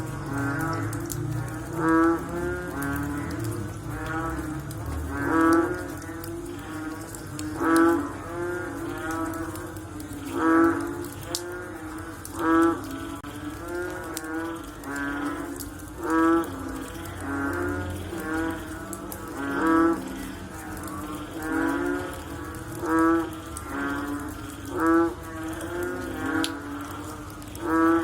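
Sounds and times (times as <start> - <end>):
frogs croaking: 0.0 - 28.0.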